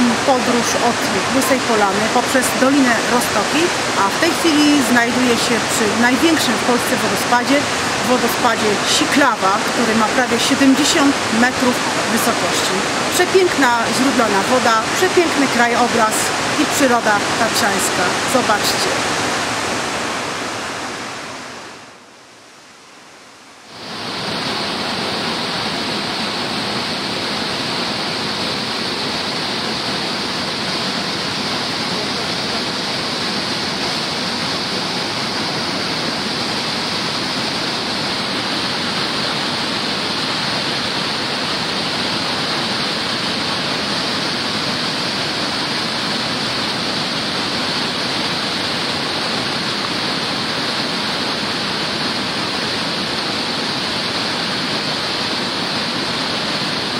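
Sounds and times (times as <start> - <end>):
stream rushing over boulders: 0.0 - 56.9.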